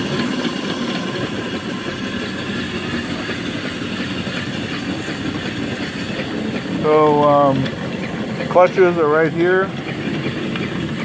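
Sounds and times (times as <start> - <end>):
steam engines clattering and chuffing: 0.0 - 11.0.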